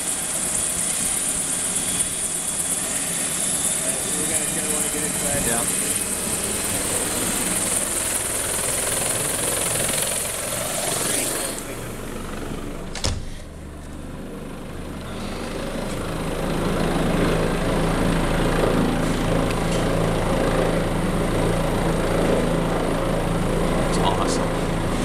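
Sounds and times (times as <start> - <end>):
helicopter engine and rotor: 0.0 - 25.0.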